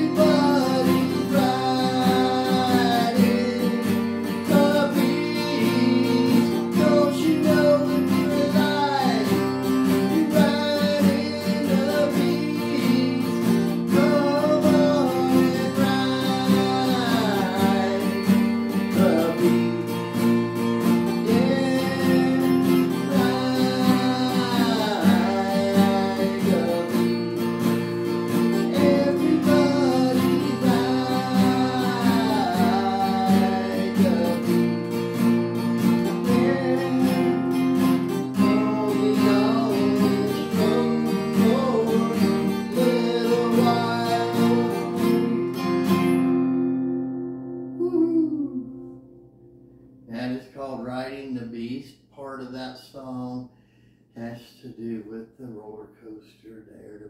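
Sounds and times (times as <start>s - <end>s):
acoustic guitar strumming: 0.0s - 51.7s.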